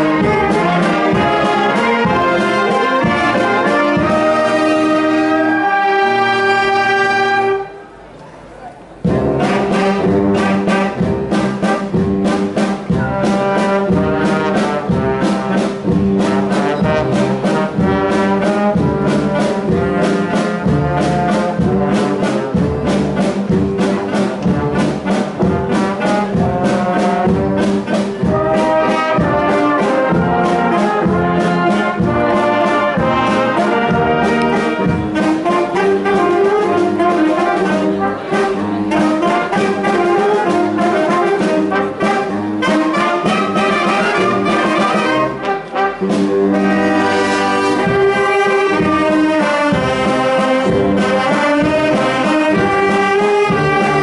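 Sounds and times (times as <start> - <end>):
brass: 0.0 - 8.0, 9.0 - 54.0
saxophones and clarinets: 0.0 - 8.0, 9.0 - 54.0.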